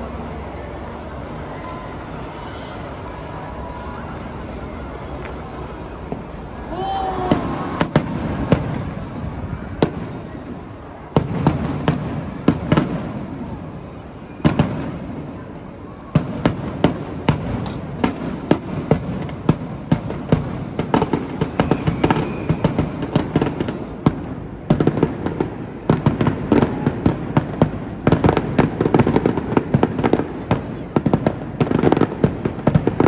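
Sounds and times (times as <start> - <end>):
continuous rumble: 0.0 - 33.0
fireworks bangs and crackles: 0.0 - 33.0.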